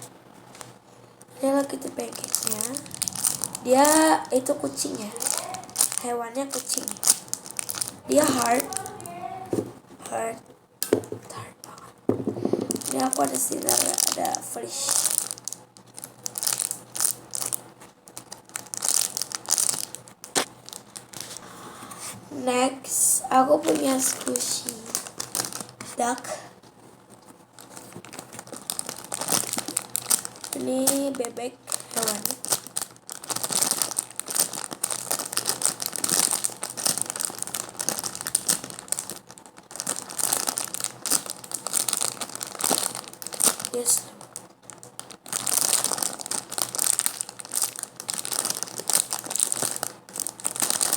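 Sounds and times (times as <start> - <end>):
crinkling and rustling handling: 0.0 - 22.6, 23.3 - 50.9.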